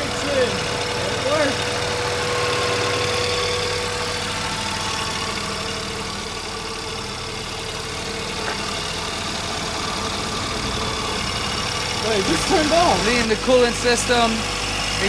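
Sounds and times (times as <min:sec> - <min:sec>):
car engine idling: 0:00.0 - 0:15.0
radiator cooling fan running: 0:00.0 - 0:15.0.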